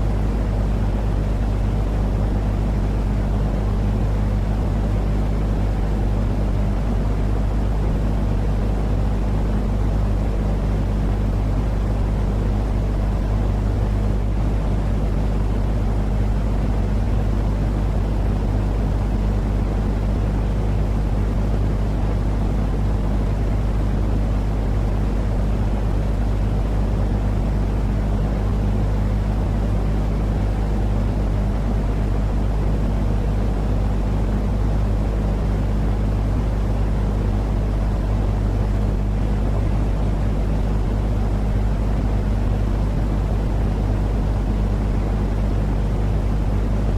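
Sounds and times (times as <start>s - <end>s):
white noise drone: 0.0s - 46.9s.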